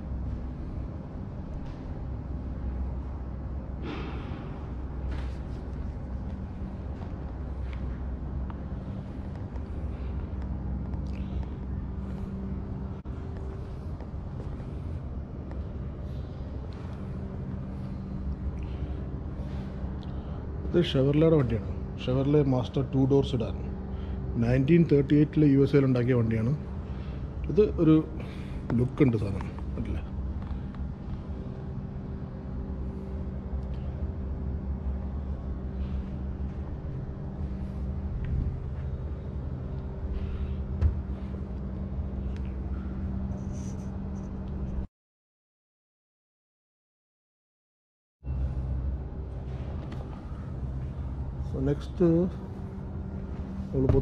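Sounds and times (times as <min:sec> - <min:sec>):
air-handling system hum: 0:00.0 - 0:44.9, 0:48.2 - 0:54.0.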